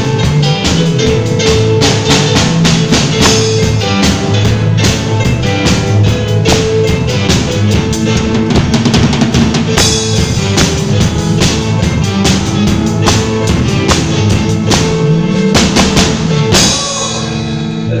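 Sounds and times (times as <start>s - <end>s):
drum kit beat: 0.0s - 17.7s
live band playing: 0.0s - 18.0s.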